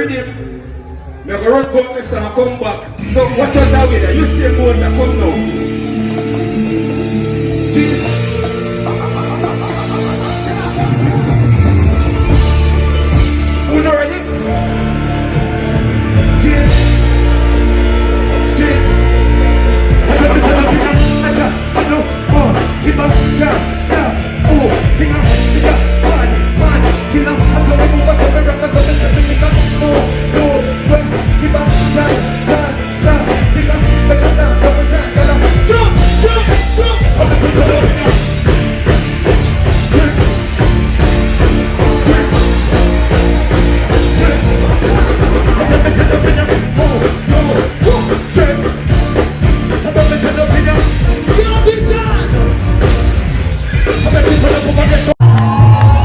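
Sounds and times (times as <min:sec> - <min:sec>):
loud dancehall music with bass: 0:03.0 - 0:56.0.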